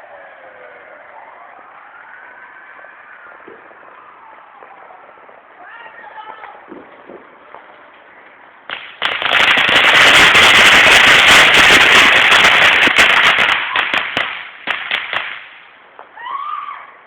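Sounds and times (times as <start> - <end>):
firecrackers crackling: 0.0 - 17.0.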